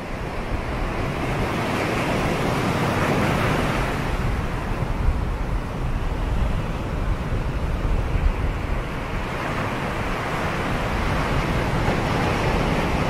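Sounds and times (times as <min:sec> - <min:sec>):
surf rushing: 0:00.0 - 0:13.0
wind noise: 0:00.0 - 0:13.0.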